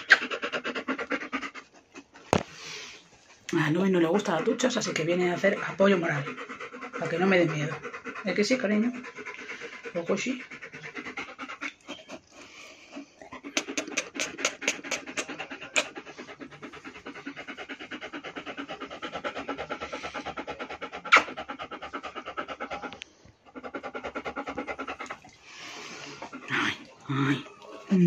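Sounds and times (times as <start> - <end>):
dog panting: 0.0 - 27.9.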